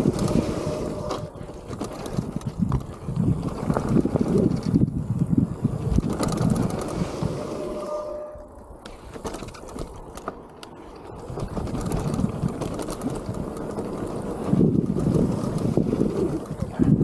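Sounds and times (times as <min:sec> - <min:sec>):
wind rushing over microphone: 0:00.0 - 0:10.0, 0:11.1 - 0:17.0
bike tyres clicking and rattling: 0:00.0 - 0:17.0.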